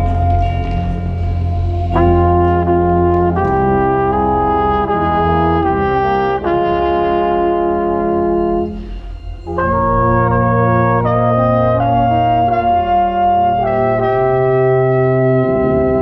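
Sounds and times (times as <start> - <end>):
brass playing held chords: 0.0 - 16.0.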